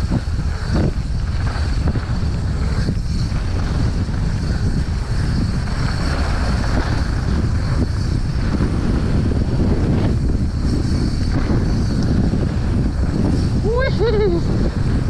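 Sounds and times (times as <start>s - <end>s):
bike tyre and trail noise: 0.0s - 15.0s
wind buffeting microphone: 0.0s - 15.0s.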